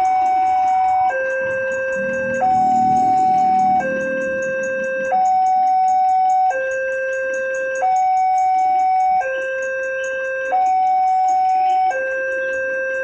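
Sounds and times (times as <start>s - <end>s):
railroad crossing alarm two-tone: 0.0s - 13.0s.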